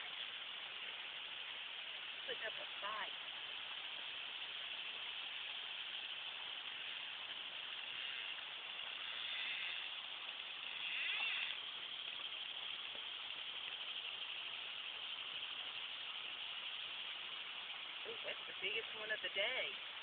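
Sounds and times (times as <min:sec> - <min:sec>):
river current hissing: 0:00.0 - 0:20.0.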